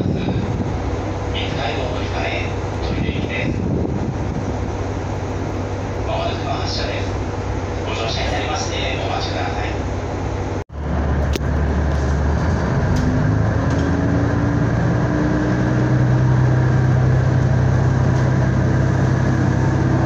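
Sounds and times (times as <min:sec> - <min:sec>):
diesel railcar engine accelerating: 0:00.0 - 0:20.0.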